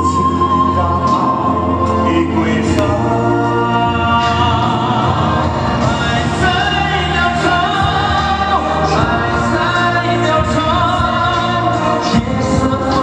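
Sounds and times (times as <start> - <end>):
loud music with singing: 0.0 - 13.0.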